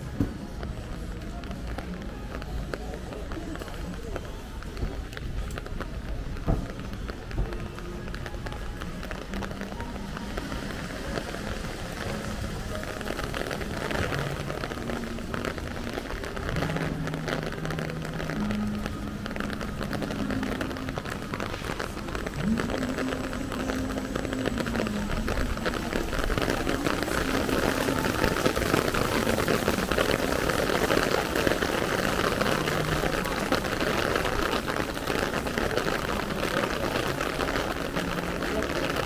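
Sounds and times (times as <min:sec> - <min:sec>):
rain falling on pavement: 0:00.0 - 0:39.0.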